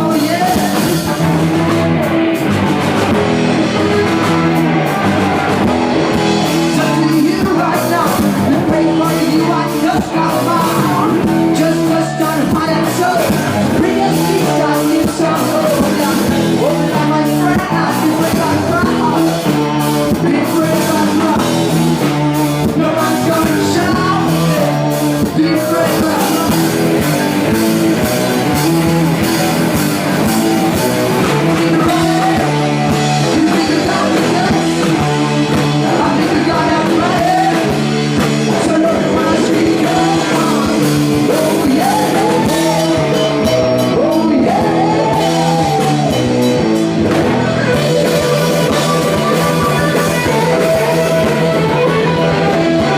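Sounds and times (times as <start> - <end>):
drum kit: 0.0 - 52.9
electric guitars: 0.0 - 52.9
person singing: 0.0 - 52.9.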